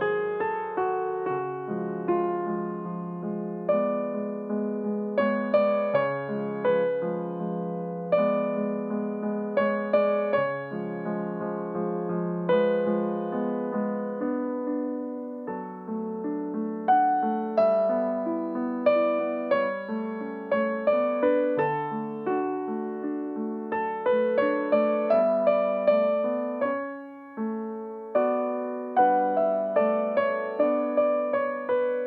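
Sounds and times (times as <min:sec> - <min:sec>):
solo piano: 0:00.0 - 0:32.0.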